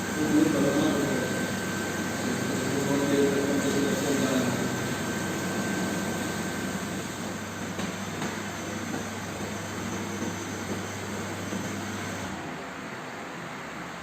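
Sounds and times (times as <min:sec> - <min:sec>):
machine hum with hiss: 0:00.0 - 0:14.0.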